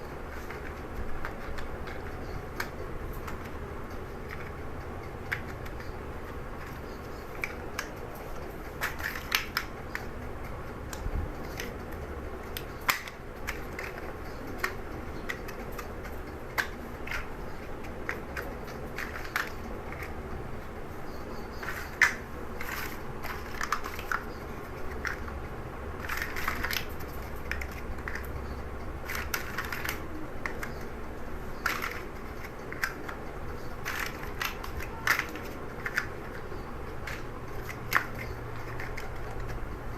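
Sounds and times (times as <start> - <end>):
plastic bricks clicking and rattling: 0.0 - 20.3, 21.0 - 39.9
low steady hum: 0.0 - 39.9.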